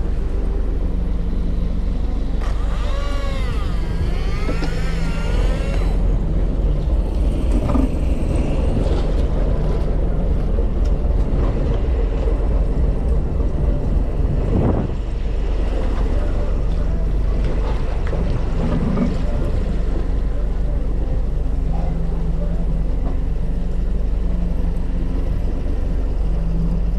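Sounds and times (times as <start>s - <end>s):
boat engine humming: 0.0s - 26.9s
water noise: 0.0s - 26.9s
wind: 0.0s - 26.9s.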